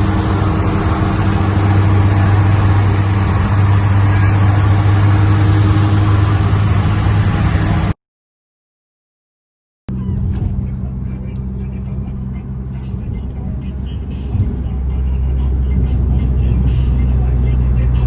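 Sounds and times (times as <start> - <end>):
car engine droning: 0.0 - 8.0, 9.9 - 18.0.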